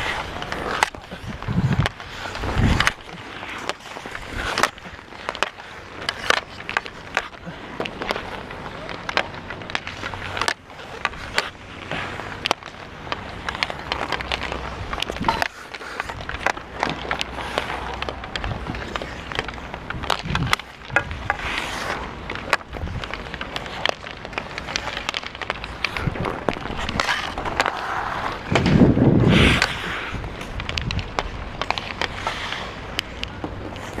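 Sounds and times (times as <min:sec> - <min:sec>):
hockey stick clicking puck: 0:00.0 - 0:34.0
skates scraping ice: 0:00.0 - 0:34.0.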